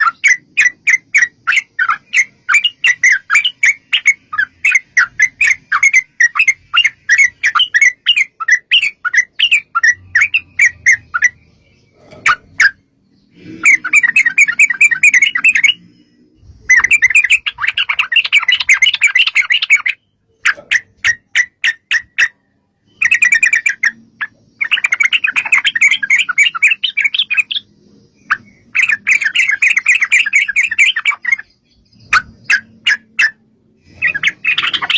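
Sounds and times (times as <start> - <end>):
bird chattering trills: 0.0 - 34.9
bird chirping: 0.0 - 34.9.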